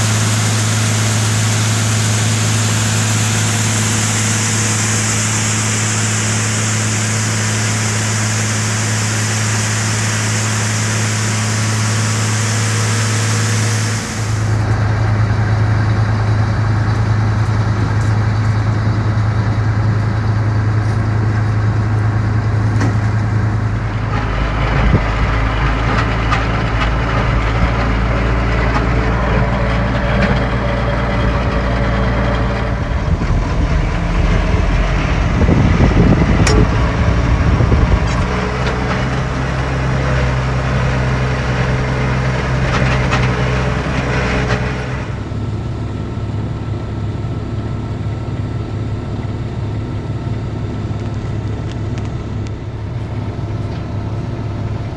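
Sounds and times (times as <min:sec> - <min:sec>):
combine harvester machinery noise: 0:00.0 - 0:54.9
low engine note: 0:00.0 - 0:54.9.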